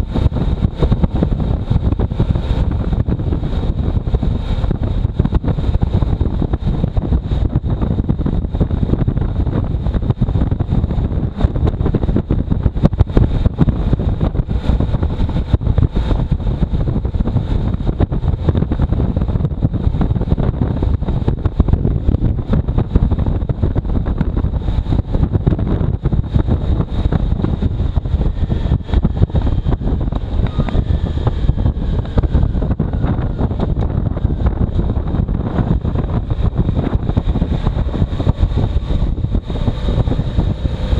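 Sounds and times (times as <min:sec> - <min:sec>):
motorcycle engine rumble: 0:00.0 - 0:40.9
wind buffeting microphone: 0:00.0 - 0:40.9.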